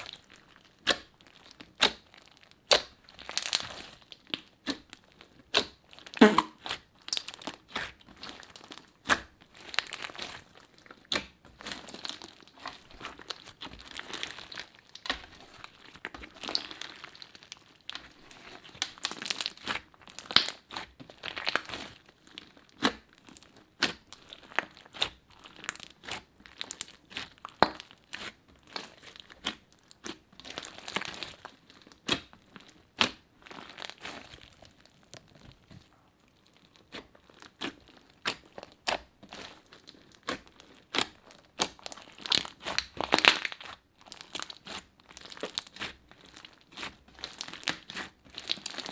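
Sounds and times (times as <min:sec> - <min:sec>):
crunchy slime crackling and popping: 0:00.0 - 0:48.9.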